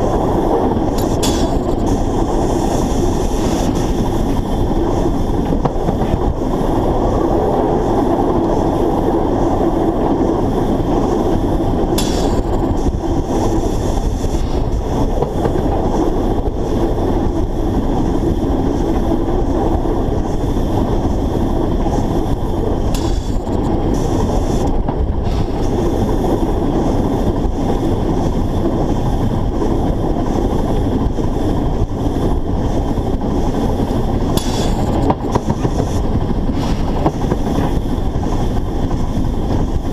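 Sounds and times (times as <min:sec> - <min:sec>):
train running gear rumble: 0:00.0 - 0:39.9.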